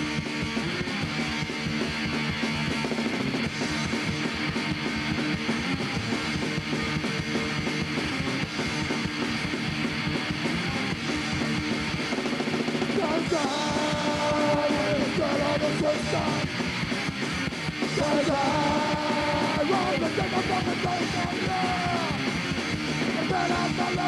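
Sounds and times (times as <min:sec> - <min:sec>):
punk rock band playing: 0:00.0 - 0:24.0.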